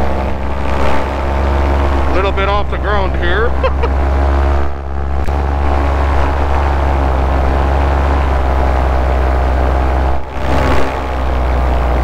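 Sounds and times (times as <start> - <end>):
paramotor engine and propeller: 0.0 - 12.0.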